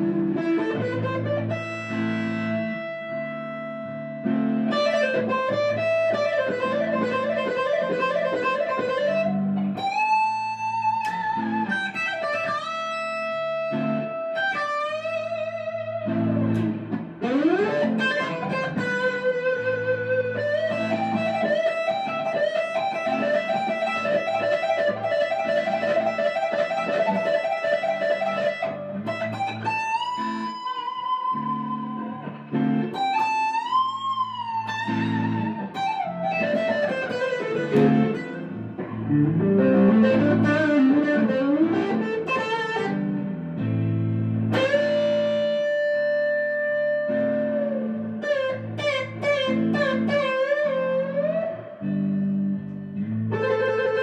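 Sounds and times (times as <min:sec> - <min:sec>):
electric guitar lead: 0:00.0 - 0:54.0.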